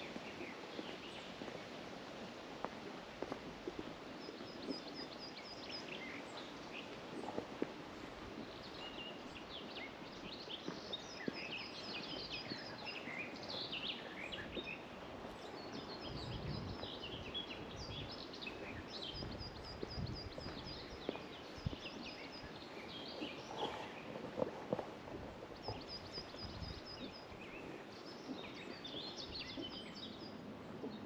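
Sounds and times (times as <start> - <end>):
small birds chirping: 0.0 - 1.7, 3.4 - 31.0
footsteps on dirt path: 0.0 - 30.2
steady outdoor hiss: 0.0 - 31.0.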